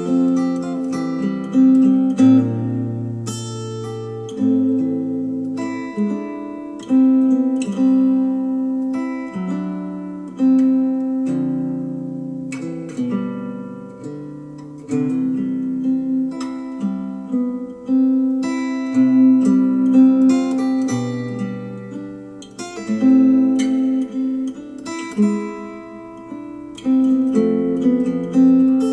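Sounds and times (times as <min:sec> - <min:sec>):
strummed acoustic guitar music: 0:00.0 - 0:28.9.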